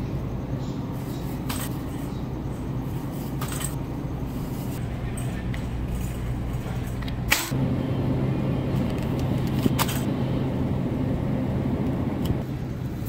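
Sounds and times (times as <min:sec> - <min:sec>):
supermarket background hum: 0:00.0 - 0:13.0.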